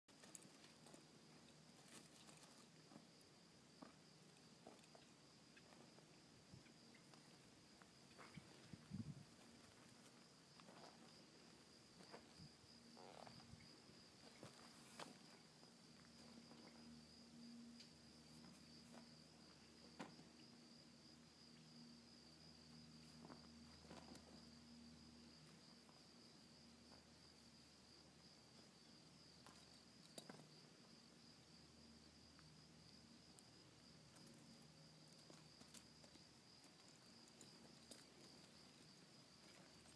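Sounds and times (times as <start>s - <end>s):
insect chirring: 0.1s - 39.9s.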